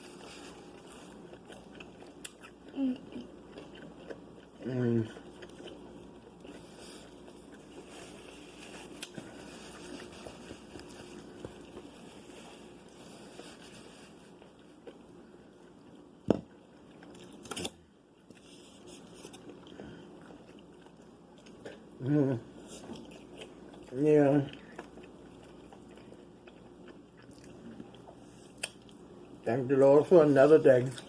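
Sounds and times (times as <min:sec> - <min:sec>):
soft chewing and mouth sounds: 0:00.0 - 0:31.0.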